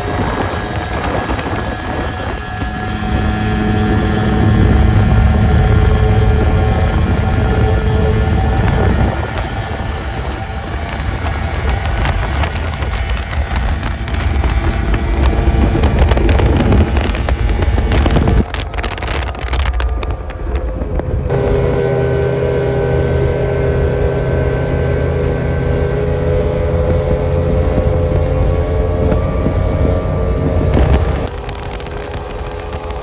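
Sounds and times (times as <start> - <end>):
boat outboard engines passing: 0.0 - 33.0
wind buffeting microphone: 0.0 - 33.0.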